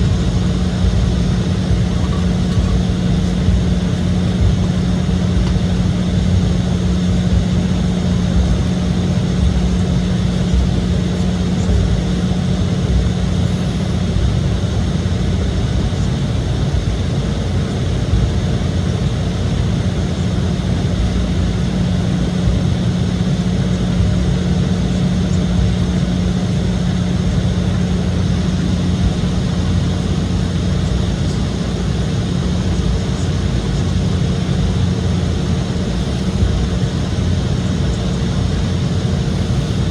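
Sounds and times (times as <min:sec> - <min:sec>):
jet engine rumble and airflow: 0:00.0 - 0:39.9
steady low hum: 0:00.0 - 0:39.9.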